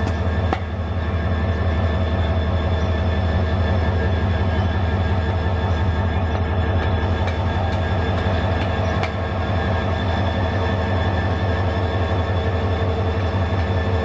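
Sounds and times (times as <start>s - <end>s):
passenger train rumbling: 0.0s - 14.0s.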